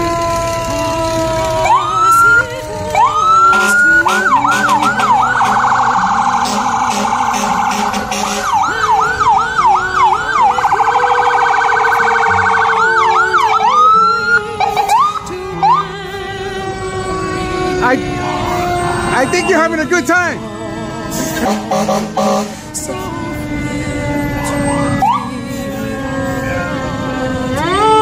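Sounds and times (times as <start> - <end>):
emergency vehicle siren: 0.0 - 28.0
low steady siren tone: 1.6 - 28.0.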